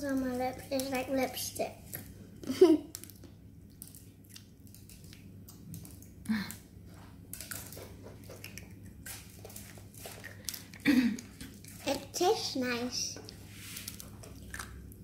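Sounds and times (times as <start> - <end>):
low steady hum: 0.0 - 15.0
child chewing: 0.2 - 12.5, 13.2 - 15.0.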